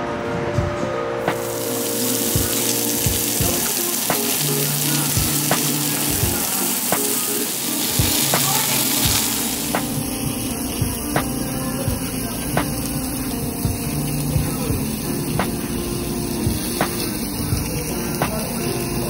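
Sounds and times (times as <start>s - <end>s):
background music with beat: 0.0s - 19.0s
meat sizzling on a grill: 1.4s - 19.0s.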